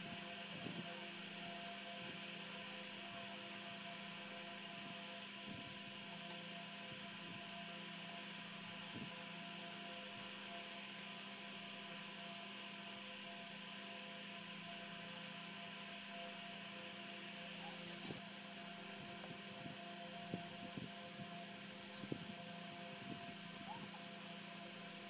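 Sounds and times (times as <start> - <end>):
steady hum with hiss: 0.0 - 25.0.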